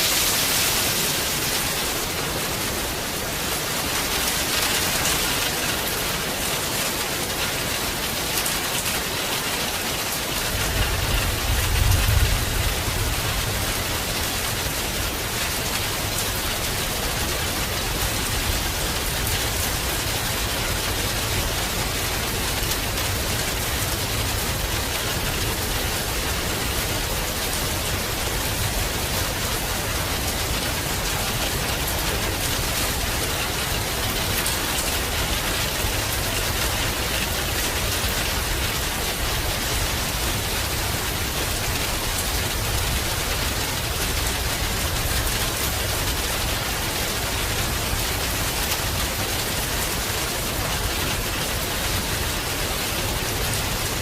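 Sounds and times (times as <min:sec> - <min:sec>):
heavy rain hissing: 0:00.0 - 0:54.0
raindrops pattering on surfaces: 0:00.0 - 0:54.0.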